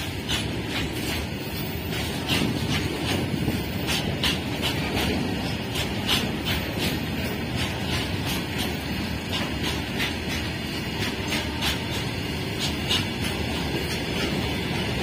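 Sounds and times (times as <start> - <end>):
sharp clicks from wheels: 0.0 - 15.0
steel wheels rumbling on rail: 0.0 - 15.0.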